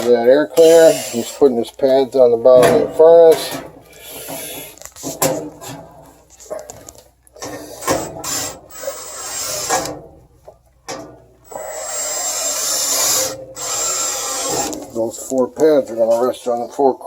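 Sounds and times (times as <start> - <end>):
knocks and scraping: 0.0 - 16.8.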